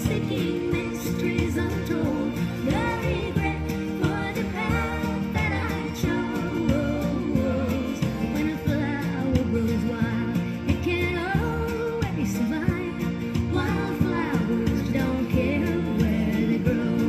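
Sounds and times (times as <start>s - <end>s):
recorded song with singing: 0.0s - 17.0s.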